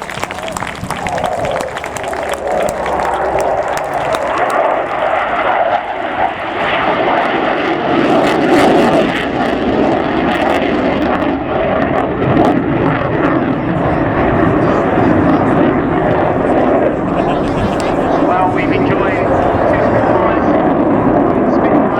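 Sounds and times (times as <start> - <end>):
aircraft engines roaring: 0.0 - 21.9.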